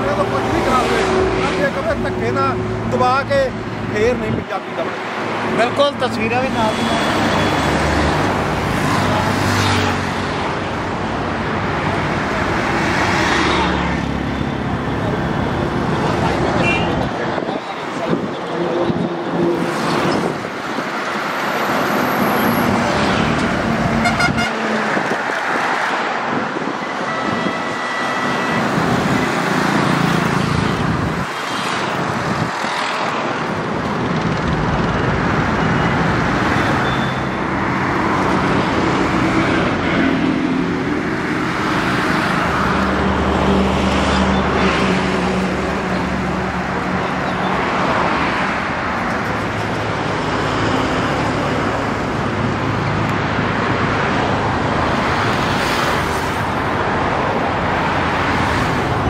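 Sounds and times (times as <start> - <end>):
diesel tractor engines: 0.0 - 59.0
road traffic noise: 0.0 - 59.0.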